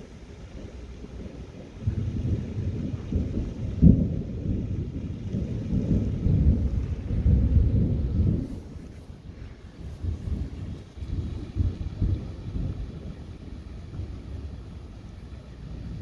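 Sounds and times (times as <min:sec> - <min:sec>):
thunder rolling: 0:00.0 - 0:16.0.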